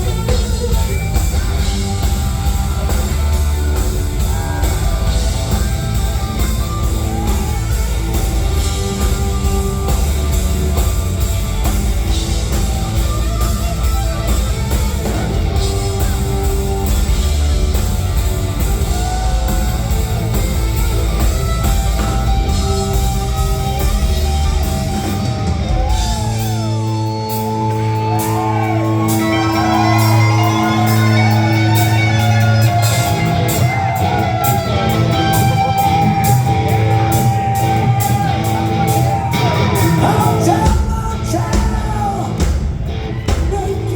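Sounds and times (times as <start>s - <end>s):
loud rock music: 0.0s - 43.9s.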